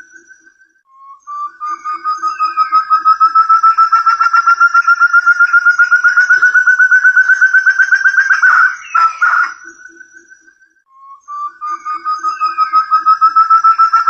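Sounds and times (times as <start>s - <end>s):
bird call repeated notes: 0.0s - 14.0s.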